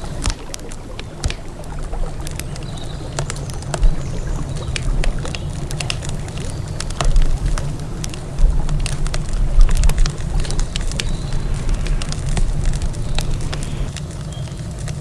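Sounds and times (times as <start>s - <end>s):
steady low rumble: 0.0s - 14.0s
wood fire crackling and popping: 0.0s - 14.2s.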